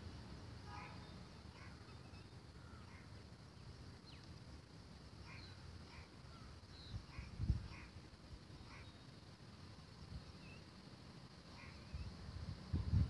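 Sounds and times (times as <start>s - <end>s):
steady hiss: 0.0s - 13.0s
distant bird chirps: 0.6s - 12.3s.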